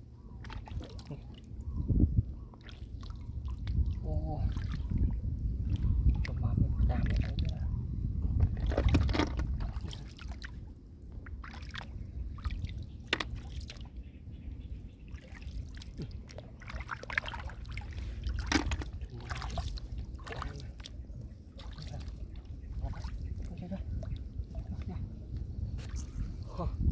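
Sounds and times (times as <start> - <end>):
shallow water sloshing and dripping: 0.0 - 26.9.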